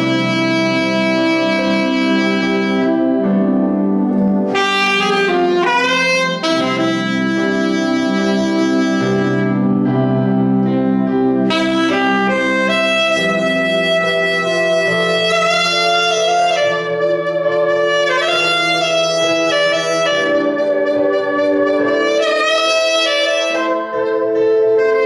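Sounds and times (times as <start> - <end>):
backing track of low chords: 0.0 - 25.0
saxophone melody: 0.0 - 25.0.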